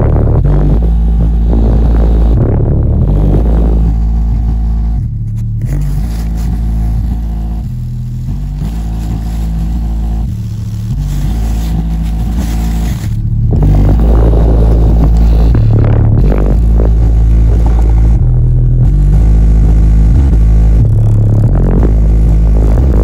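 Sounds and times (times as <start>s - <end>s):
cardboard box vibrating: 0.0s - 23.0s
loud deep bass notes: 0.0s - 23.0s.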